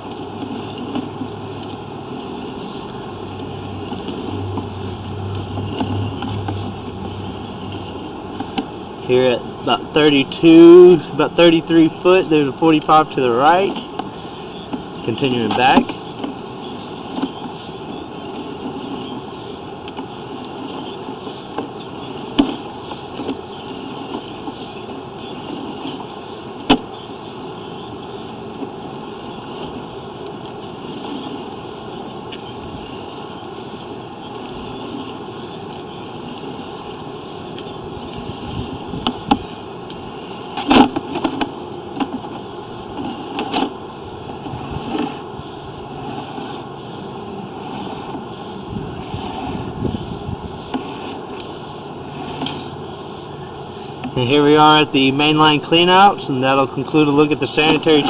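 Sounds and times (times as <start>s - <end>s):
steady mechanical running noise: 0.0s - 58.0s.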